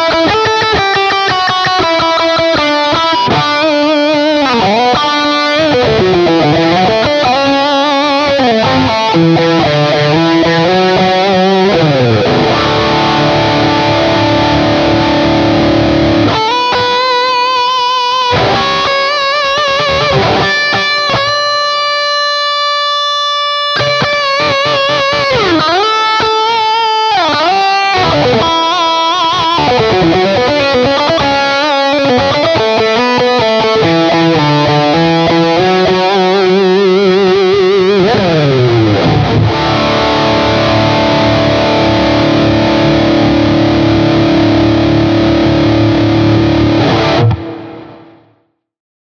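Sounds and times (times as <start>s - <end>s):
distorted electric guitar: 0.0s - 48.6s.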